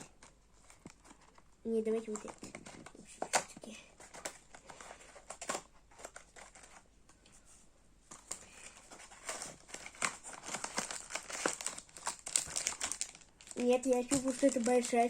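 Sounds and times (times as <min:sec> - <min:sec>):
plastic packaging crinkling: 0:00.0 - 0:06.8, 0:08.1 - 0:15.0.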